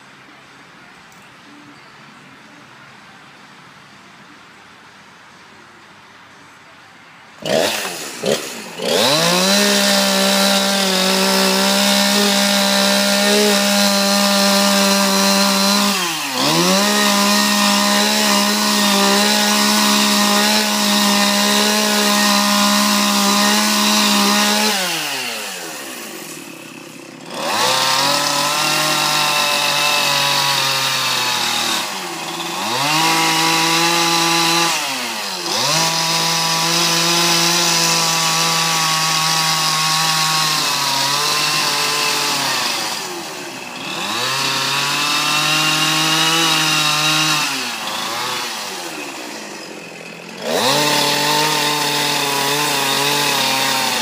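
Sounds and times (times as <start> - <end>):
chainsaw revving: 7.4 - 54.0.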